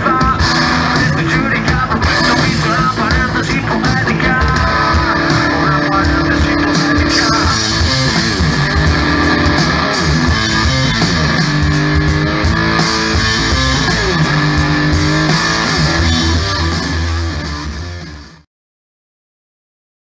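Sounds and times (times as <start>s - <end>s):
bass notes: 0.0s - 18.4s
drums and cymbals: 0.0s - 18.4s
electric guitar riff: 0.0s - 18.4s.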